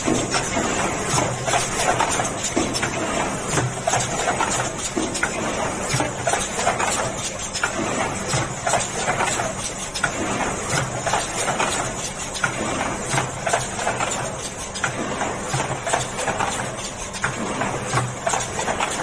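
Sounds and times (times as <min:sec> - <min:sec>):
rhythmic machine clatter: 0:00.0 - 0:19.0.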